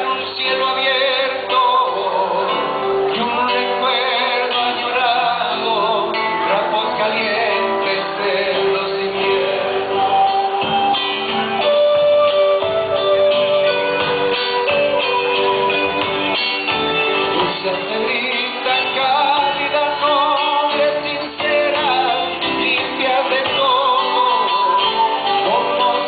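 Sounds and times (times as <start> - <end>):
man singing: 0.0 - 13.8, 17.2 - 26.0
acoustic guitar: 0.0 - 26.0
bass guitar: 0.0 - 26.0.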